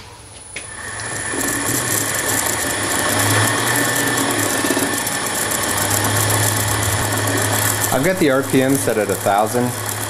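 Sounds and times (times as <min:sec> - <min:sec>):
mill spindle running: 0:00.3 - 0:10.0
crackling static: 0:00.4 - 0:10.0.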